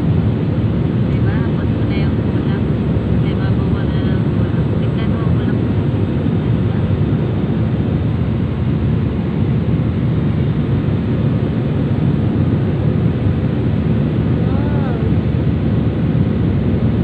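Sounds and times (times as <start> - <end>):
airliner cabin engine roar: 0.0 - 17.0.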